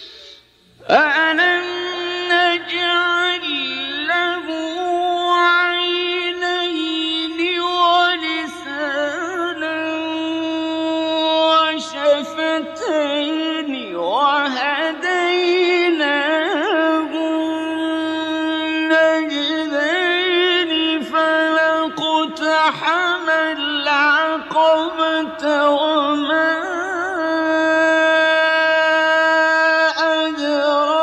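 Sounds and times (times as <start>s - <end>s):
man reciting melodically: 0.0s - 31.0s.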